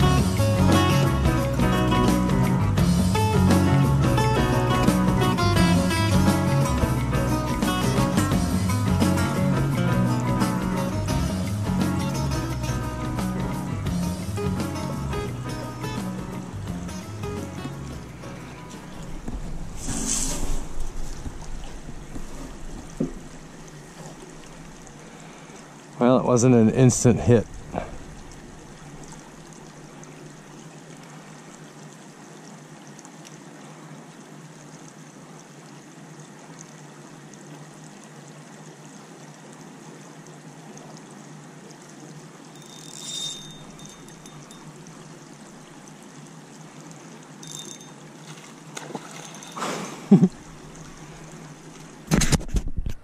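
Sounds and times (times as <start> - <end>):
trickling and lapping water: 0.0 - 53.0.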